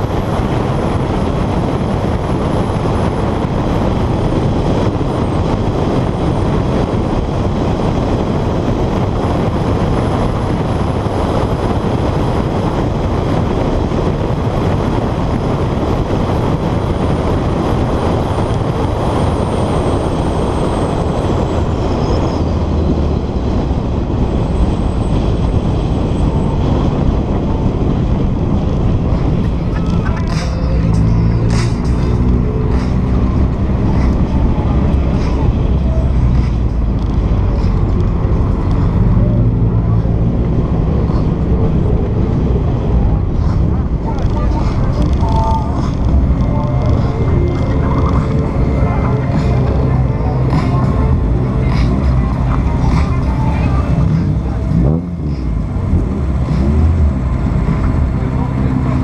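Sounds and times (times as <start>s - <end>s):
car engine running hard: 0.0s - 59.0s
wind rush: 0.0s - 59.0s.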